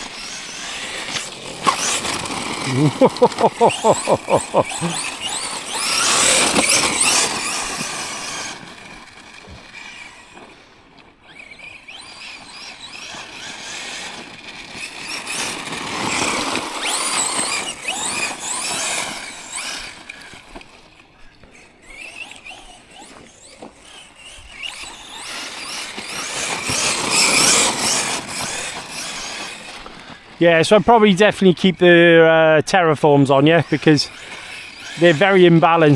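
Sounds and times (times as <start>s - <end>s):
rc truck electric motor whining: 0.0s - 35.9s.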